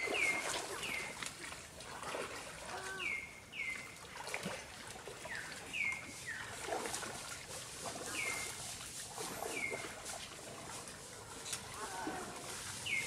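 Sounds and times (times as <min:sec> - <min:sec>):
faint water sounds: 0:00.0 - 0:13.0.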